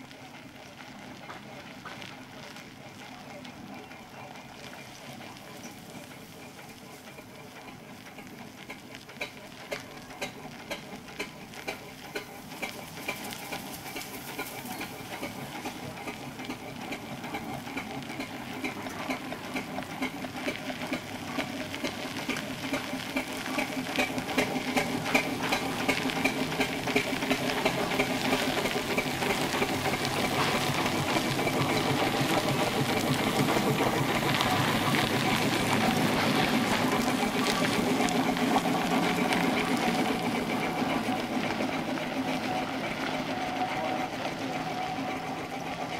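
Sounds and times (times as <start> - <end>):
steam engine rhythmic exhaust beat: 0.0 - 45.9.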